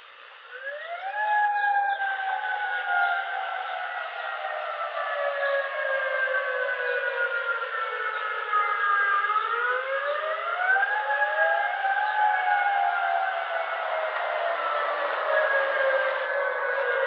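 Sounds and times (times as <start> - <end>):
warning siren wailing: 0.5 - 17.0.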